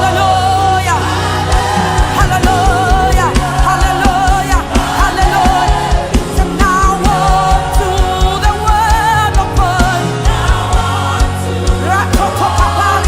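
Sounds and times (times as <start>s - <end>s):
band with bass and drums: 0.0s - 13.0s
singers holding wavering notes: 0.0s - 13.0s.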